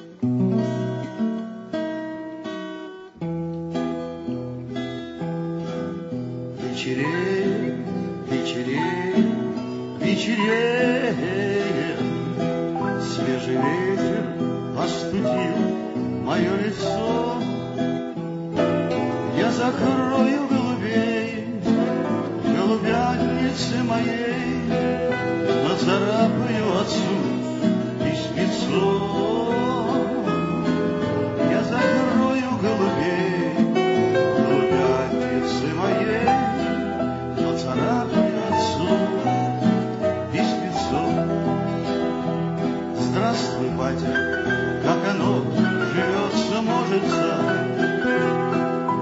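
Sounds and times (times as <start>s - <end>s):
acoustic guitar strumming: 0.0s - 49.0s
man singing: 6.5s - 18.1s, 18.9s - 49.0s.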